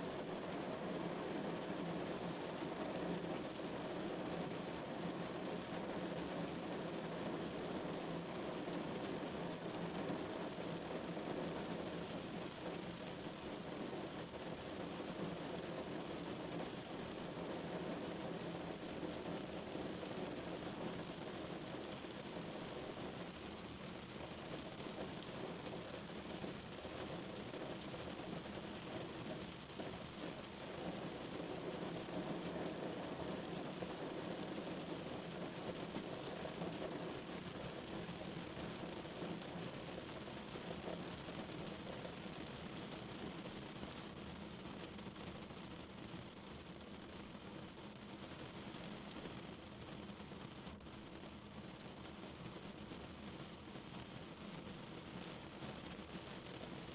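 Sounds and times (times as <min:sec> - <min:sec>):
rain on a car body: 0:00.0 - 0:56.9.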